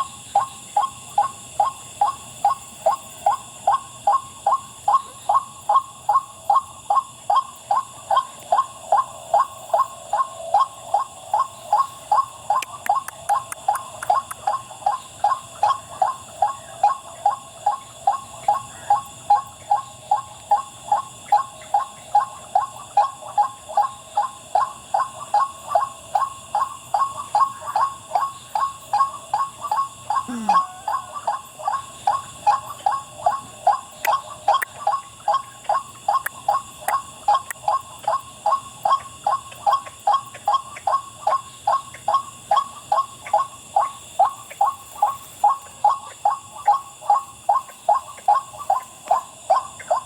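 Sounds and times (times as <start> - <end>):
bird repeating wak-wak call: 0.0 - 50.0.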